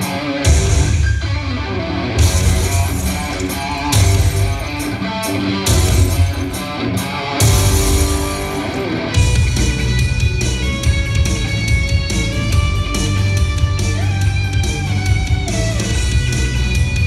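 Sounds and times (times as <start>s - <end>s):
live rock music: 0.0s - 17.0s.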